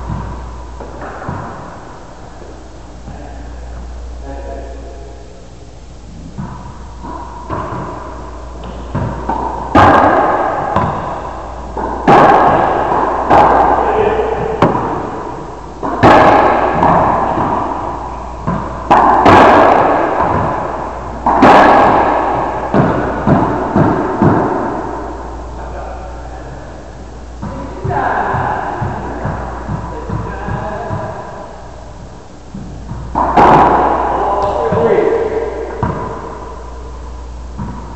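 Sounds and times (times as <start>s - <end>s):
racquetball hits echoing: 0.0s - 4.9s, 6.1s - 37.9s.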